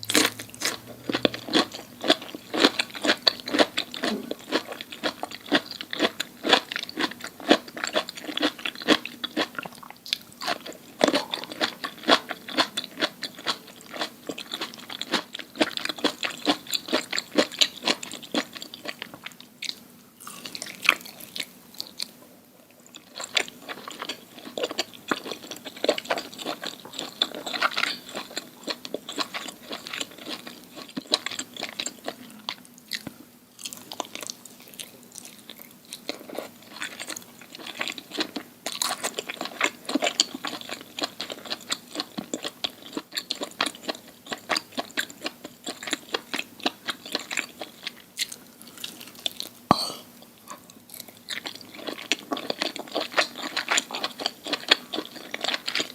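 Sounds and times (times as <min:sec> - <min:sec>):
chewing crunchy food: 0:00.0 - 0:55.9.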